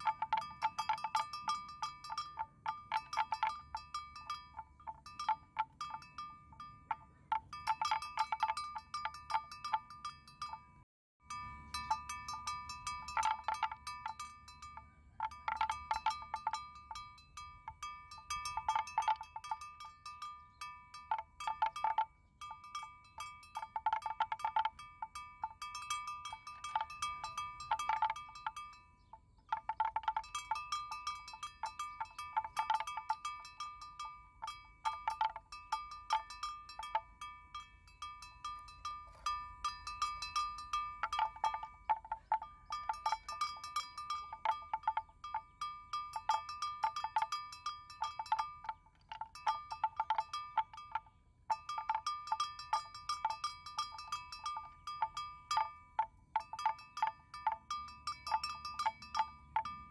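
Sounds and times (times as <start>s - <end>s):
animal bell clanking: 0.0s - 59.9s.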